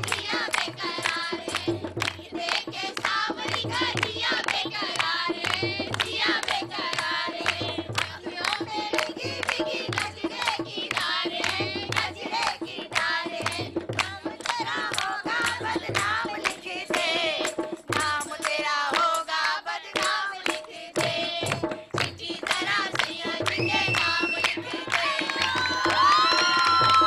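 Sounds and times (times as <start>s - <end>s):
hand drum beating: 0.0s - 18.5s, 20.0s - 27.0s
rhythmic hand clapping: 0.0s - 27.0s.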